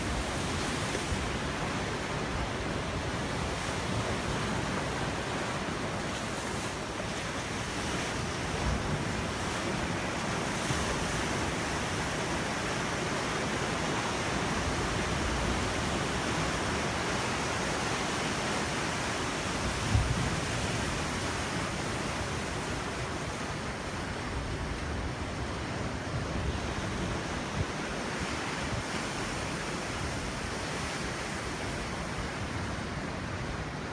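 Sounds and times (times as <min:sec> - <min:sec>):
ocean surf breaking on beach: 0:00.0 - 0:33.9.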